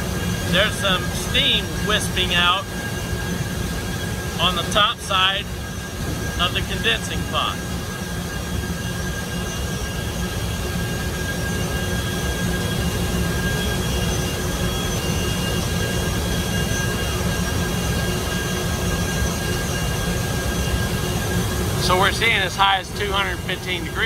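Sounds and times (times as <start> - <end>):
machinery roar: 0.0 - 24.0.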